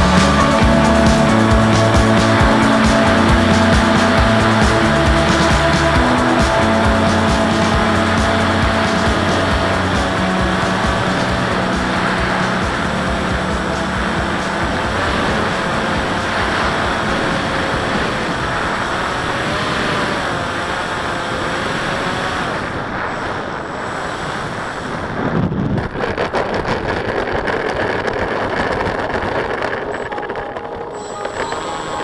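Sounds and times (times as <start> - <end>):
motor whine: 0.0 - 25.7, 28.0 - 32.0
wheels rattling on concrete: 0.0 - 32.0
wind noise: 0.0 - 32.0.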